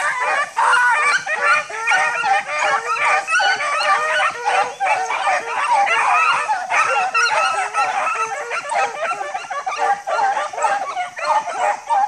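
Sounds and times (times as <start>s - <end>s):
dogs baying together: 0.0s - 12.0s.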